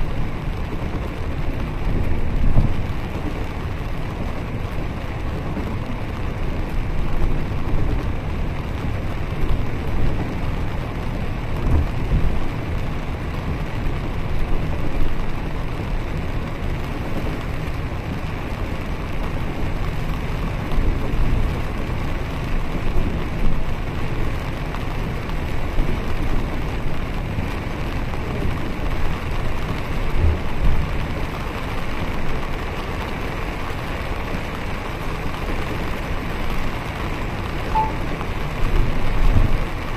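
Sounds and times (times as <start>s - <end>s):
bus engine and road rumble: 0.0s - 39.9s
rain: 0.0s - 39.9s.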